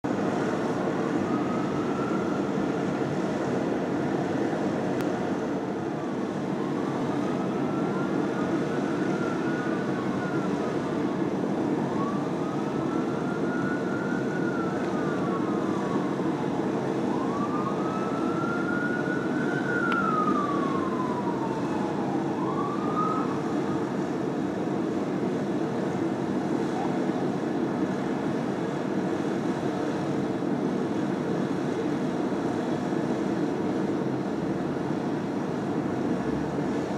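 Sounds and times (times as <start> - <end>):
rumble of engines and traffic: 0.0 - 36.9
fire engine sirens wailing: 0.1 - 36.9.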